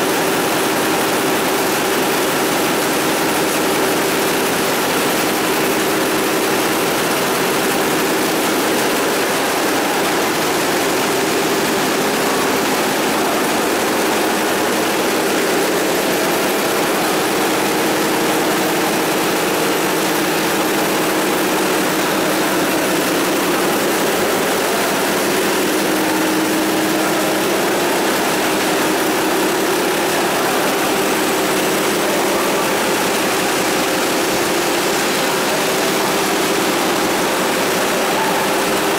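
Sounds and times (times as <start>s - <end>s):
conveyor machinery hum: 0.0s - 38.9s.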